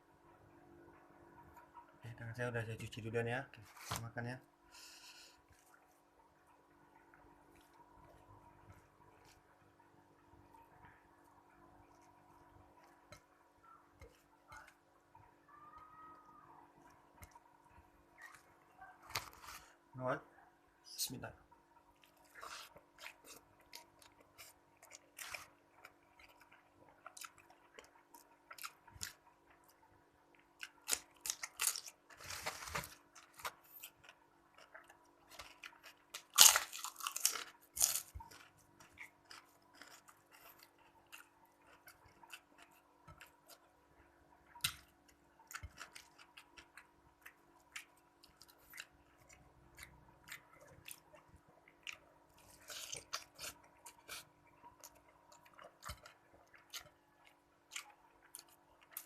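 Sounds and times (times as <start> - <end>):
person chewing and crunching food: 4.8 - 19.8, 21.7 - 59.0.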